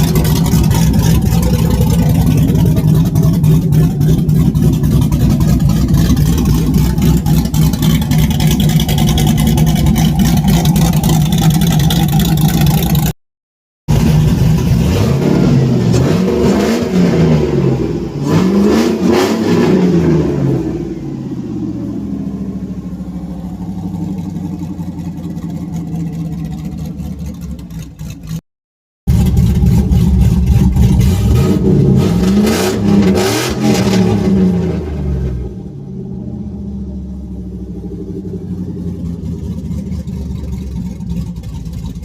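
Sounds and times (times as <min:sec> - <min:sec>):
car engine revving: 0:00.0 - 0:13.1, 0:13.9 - 0:28.4, 0:29.1 - 0:42.0.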